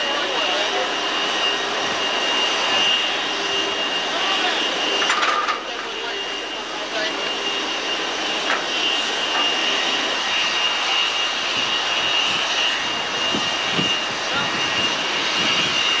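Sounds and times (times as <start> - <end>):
power cart high whine and roar: 0.0 - 16.0.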